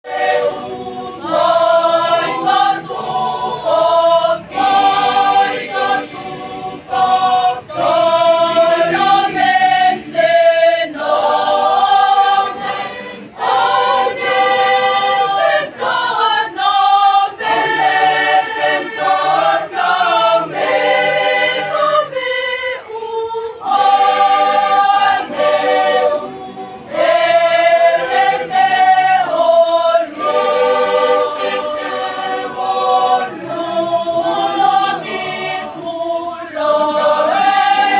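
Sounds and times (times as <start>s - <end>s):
mixed choir singing in harmony: 0.0s - 37.9s.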